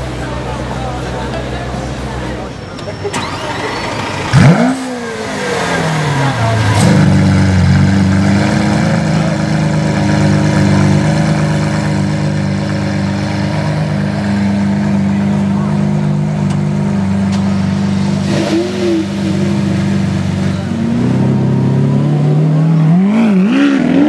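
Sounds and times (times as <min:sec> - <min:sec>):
car engine starting and idling: 0:00.0 - 0:23.4.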